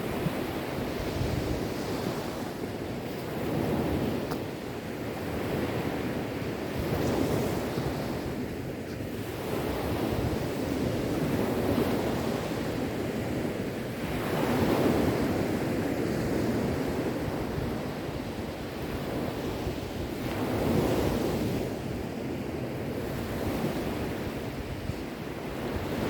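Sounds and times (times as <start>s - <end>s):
sea waves washing onto shore: 0.0s - 26.0s
wind noise on microphone: 0.0s - 26.0s.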